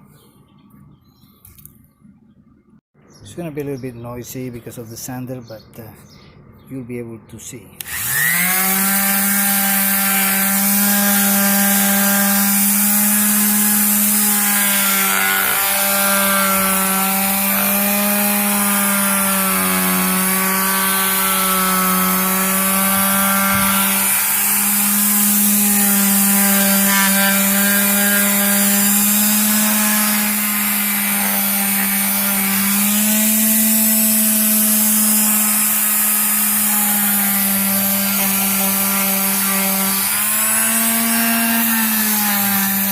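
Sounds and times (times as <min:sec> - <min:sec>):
power sander sanding: 0:07.8 - 0:42.9.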